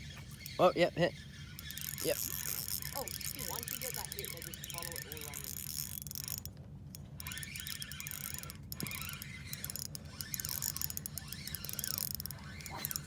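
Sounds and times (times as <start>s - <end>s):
fishing reel clicking and whirring: 0.0s - 13.0s.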